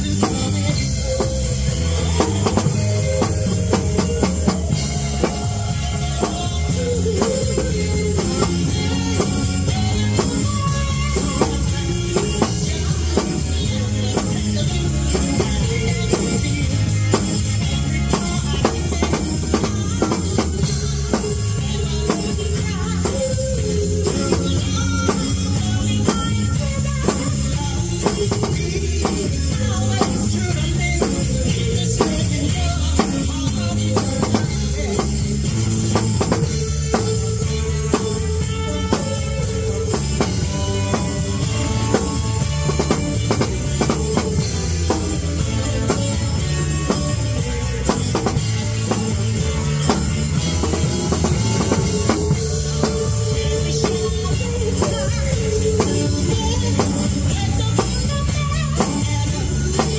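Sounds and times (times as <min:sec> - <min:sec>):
drum and cymbal hits: 0:00.0 - 0:59.9
rock song with singing: 0:00.0 - 0:59.9.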